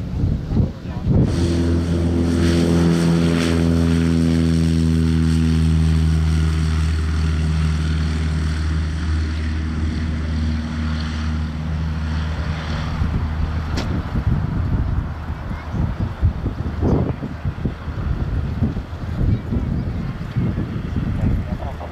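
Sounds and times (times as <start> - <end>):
propeller plane engine drone: 0.0 - 21.9.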